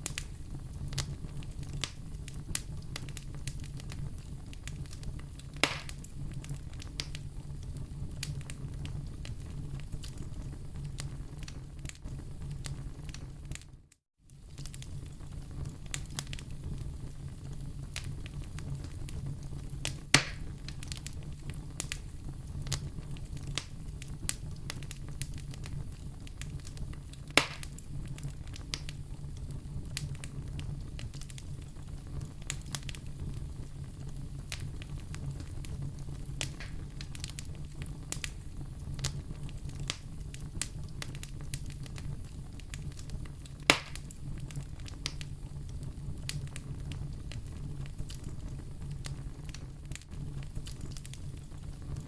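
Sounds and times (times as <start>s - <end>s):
sharp fire pops: 0.0s - 13.7s, 14.3s - 52.0s
wood fire crackling: 0.0s - 52.0s.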